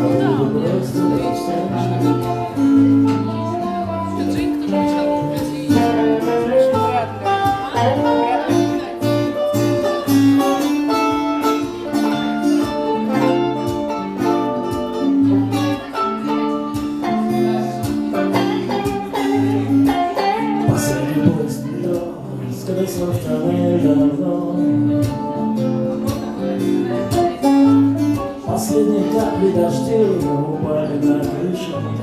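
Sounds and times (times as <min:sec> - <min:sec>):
bass: 0:00.0 - 0:32.0
guitar melody: 0:00.0 - 0:32.0.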